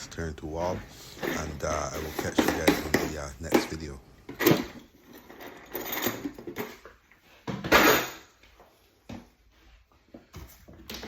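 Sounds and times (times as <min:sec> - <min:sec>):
knocks and scrapes of handling: 0:01.0 - 0:11.0.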